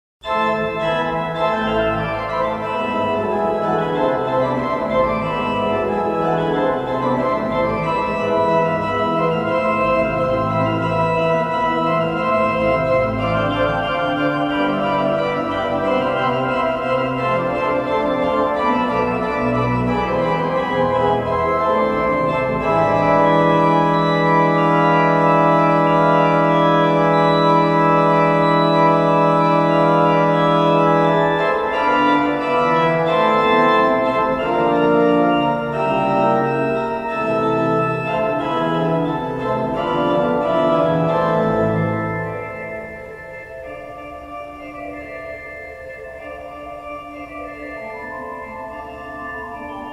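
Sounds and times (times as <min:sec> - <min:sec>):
organ playing chords: 0:00.2 - 0:49.9.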